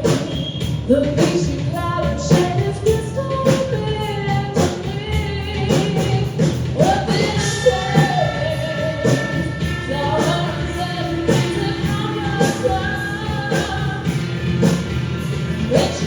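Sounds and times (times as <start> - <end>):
live band playing: 0.0 - 16.0
person singing: 0.9 - 14.8, 15.5 - 16.0.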